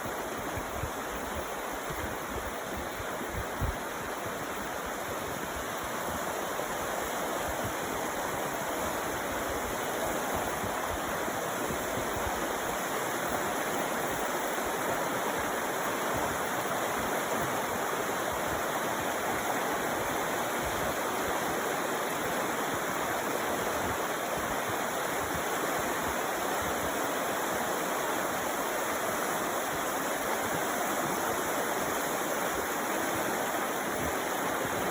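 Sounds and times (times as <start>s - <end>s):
creek water flowing: 0.0s - 34.9s.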